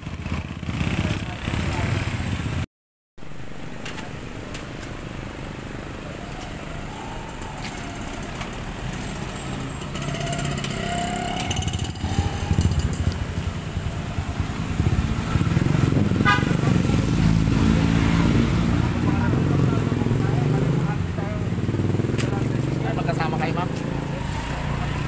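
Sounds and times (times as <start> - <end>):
motorcycle engines passing: 0.0 - 2.7, 3.4 - 25.0
car engines passing: 0.0 - 25.0.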